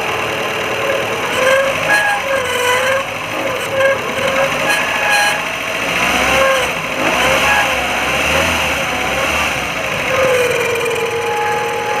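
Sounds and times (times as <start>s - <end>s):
petrol engine running: 0.0s - 12.0s
whine rising and falling in pitch: 0.8s - 12.0s.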